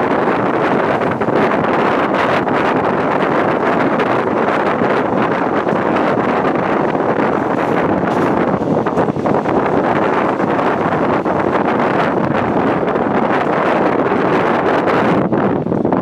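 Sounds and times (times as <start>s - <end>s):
train running noise: 0.0s - 16.0s
wind buffeting microphone: 0.0s - 16.0s.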